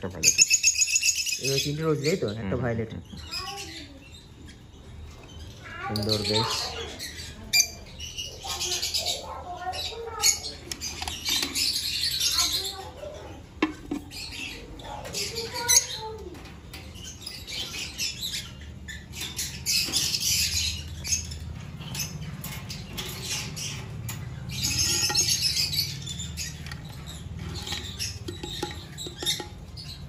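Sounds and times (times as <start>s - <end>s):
birds chirping and chattering: 0.0s - 30.0s.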